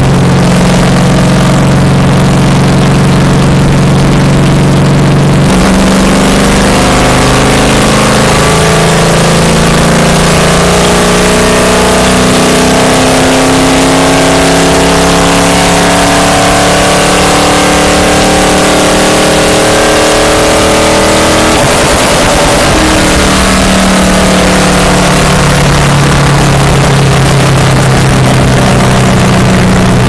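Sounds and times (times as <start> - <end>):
race car engine at high revs: 0.0 - 30.0
road and wind noise: 0.0 - 30.0.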